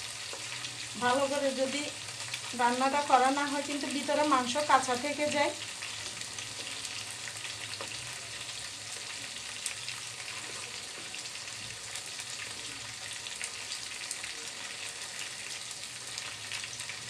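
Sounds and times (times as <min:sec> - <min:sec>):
chicken sizzling in frying pan: 0:00.0 - 0:17.0.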